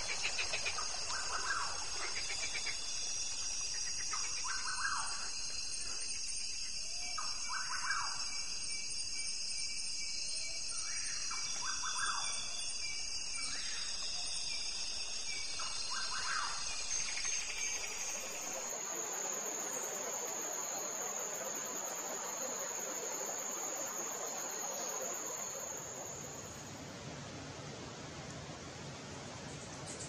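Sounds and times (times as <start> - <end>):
high insect whine: 0.0 - 30.0
insects buzzing: 0.0 - 30.0
steady hiss: 0.0 - 30.0.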